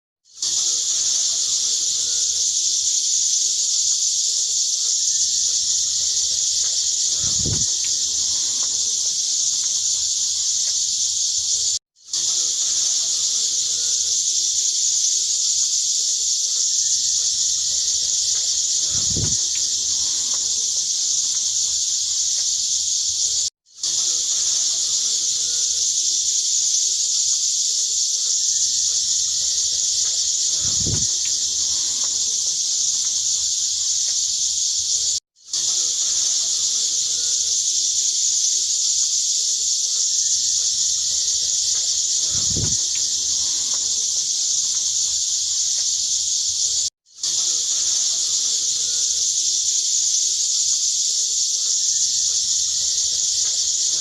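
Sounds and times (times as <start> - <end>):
loud high-pitched hiss: 0.4 - 54.0.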